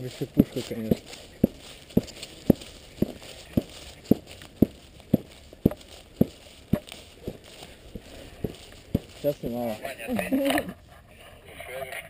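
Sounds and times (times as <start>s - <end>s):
footsteps on grass: 0.0s - 10.8s.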